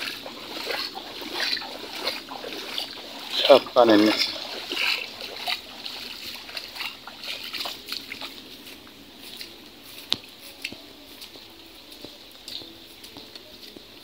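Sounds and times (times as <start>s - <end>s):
footsteps on wet muddy ground: 0.0s - 14.0s.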